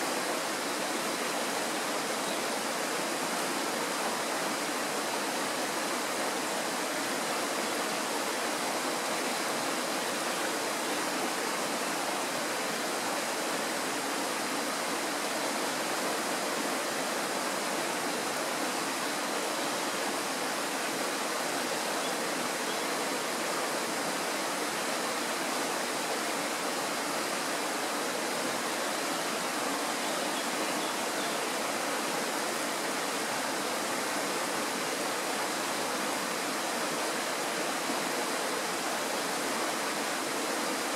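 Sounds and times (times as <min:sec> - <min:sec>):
mountain stream flowing: 0:00.0 - 0:40.9.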